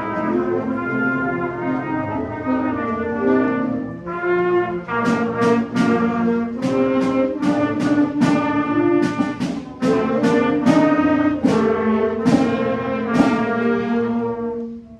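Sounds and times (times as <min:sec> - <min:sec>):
brass ensemble playing chords: 0:00.0 - 0:14.9.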